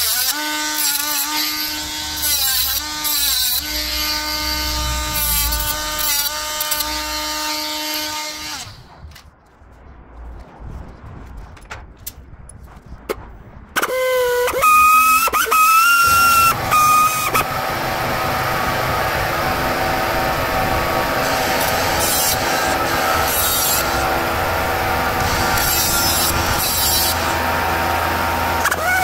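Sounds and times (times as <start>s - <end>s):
grinding tool grinding plastic: 0.0s - 9.0s, 13.9s - 29.0s.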